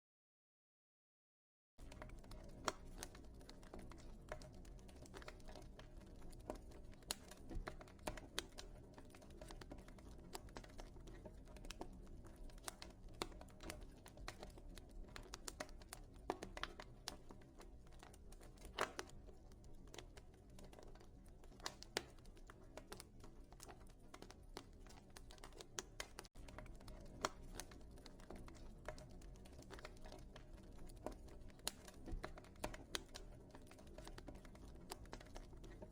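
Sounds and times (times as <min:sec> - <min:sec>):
wood fire crackling and popping: 0:01.8 - 0:35.9.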